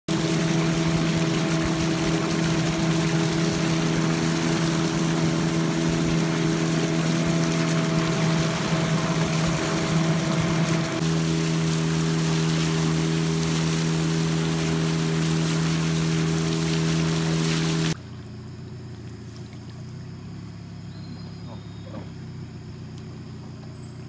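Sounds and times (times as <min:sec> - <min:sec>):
boat motor humming: 0:00.0 - 0:24.0
water rushing along hull: 0:00.0 - 0:24.0.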